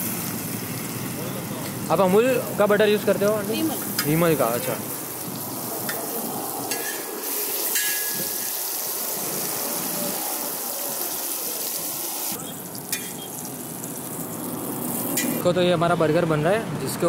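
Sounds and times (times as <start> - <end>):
butter sizzling on a griddle: 0.0 - 15.4.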